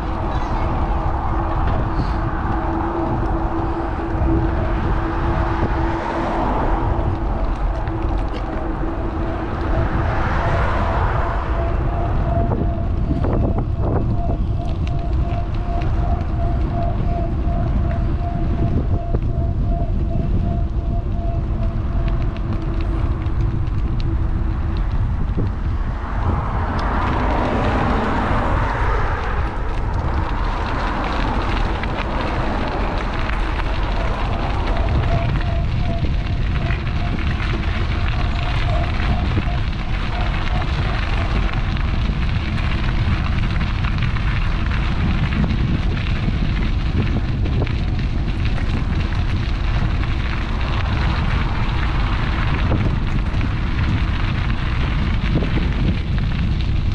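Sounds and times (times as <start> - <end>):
faint steady whine: 0.0 - 56.9
wind rumbling on microphone: 0.0 - 56.9.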